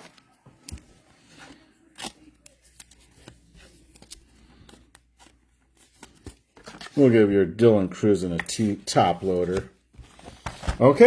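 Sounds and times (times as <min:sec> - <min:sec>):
trading cards rustling: 0:00.0 - 0:07.4, 0:08.2 - 0:11.0.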